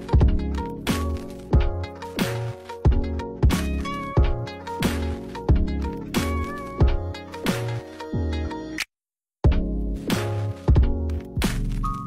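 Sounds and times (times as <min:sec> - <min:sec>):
background music with steady beat: 0:00.0 - 0:08.8, 0:09.4 - 0:12.0.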